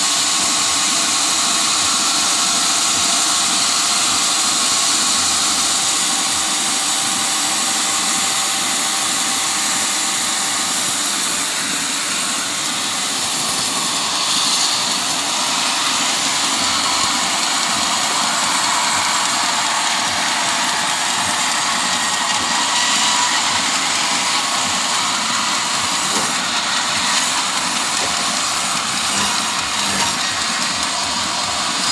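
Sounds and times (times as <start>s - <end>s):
sawmill cutting wood: 0.0s - 31.9s.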